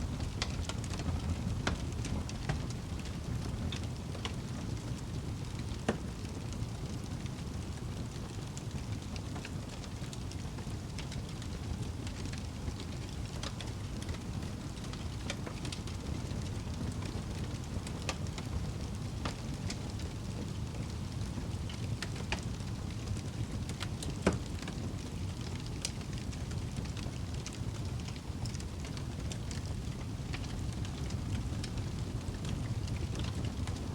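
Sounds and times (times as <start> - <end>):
fire crackling: 0.0 - 33.9
wood fire burning: 0.0 - 33.9.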